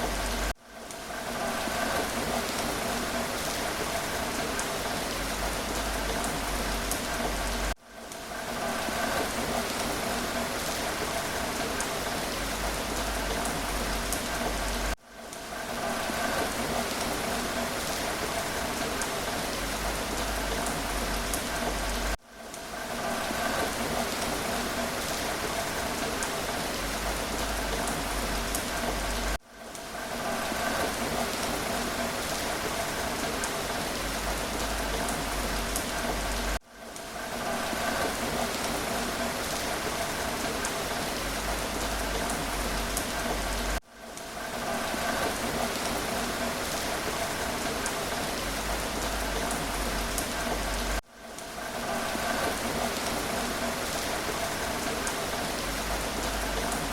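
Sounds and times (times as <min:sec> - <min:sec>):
rain falling on a surface: 0:00.0 - 0:56.9.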